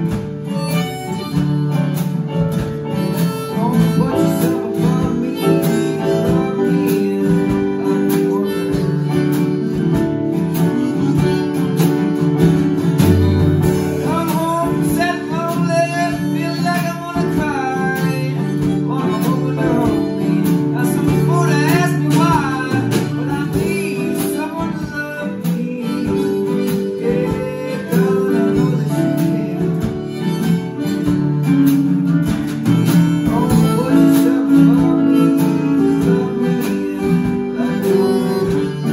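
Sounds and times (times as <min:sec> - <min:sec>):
drum kit: 0:00.0 - 0:38.9
harmonica playing lead: 0:00.0 - 0:38.9
keyboard: 0:00.0 - 0:38.9
strummed acoustic guitar: 0:00.0 - 0:38.9.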